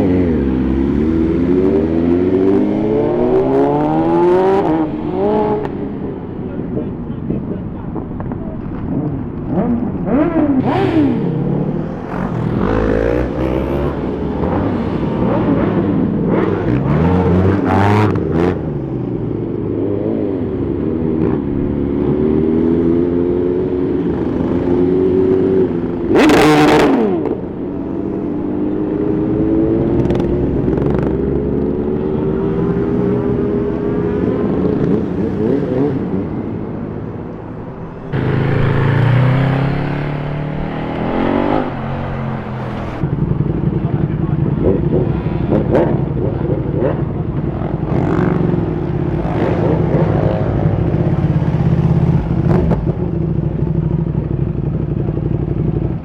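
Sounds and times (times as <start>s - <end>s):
motorbike engines revving: 0.0s - 56.0s.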